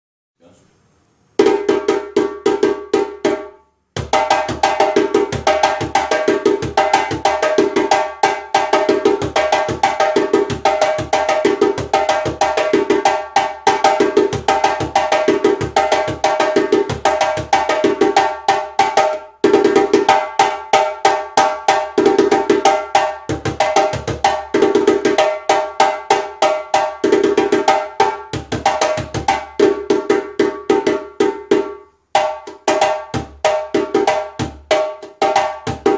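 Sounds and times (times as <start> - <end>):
djembe hand drumming: 1.4 - 35.9.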